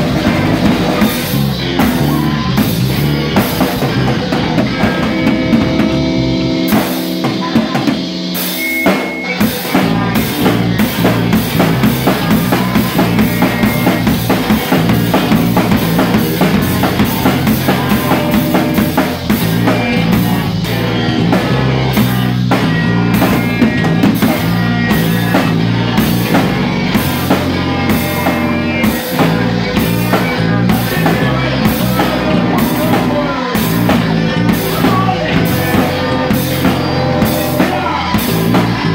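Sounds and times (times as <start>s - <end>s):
drum kit: 0.0s - 38.9s
rock band playing: 0.0s - 38.9s.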